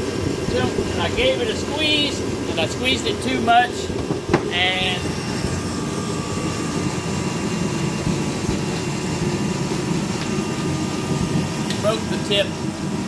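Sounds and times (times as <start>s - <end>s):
motor drone: 0.0s - 13.0s.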